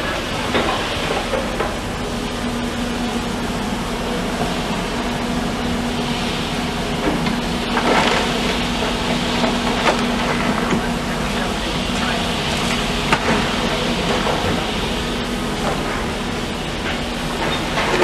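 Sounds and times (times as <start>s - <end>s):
demolition machinery engine hum: 0.0s - 18.0s.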